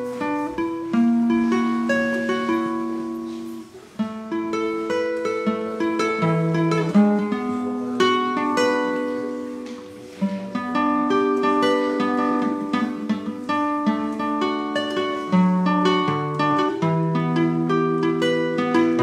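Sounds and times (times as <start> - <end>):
fingerpicked classical guitar: 0.0 - 19.0.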